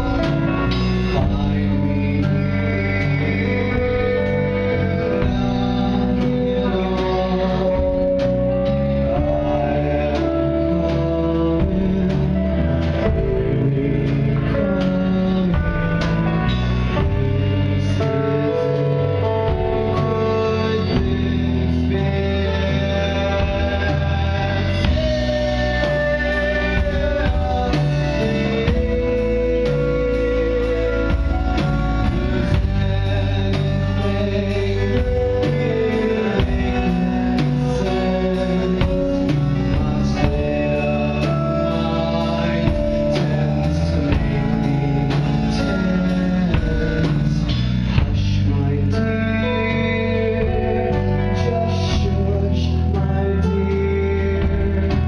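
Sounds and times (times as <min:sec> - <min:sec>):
bass guitar: 0:00.0 - 0:55.0
drums: 0:00.0 - 0:55.0
guitars: 0:00.0 - 0:55.0
keyboard: 0:00.0 - 0:55.0
person singing: 0:00.0 - 0:55.0.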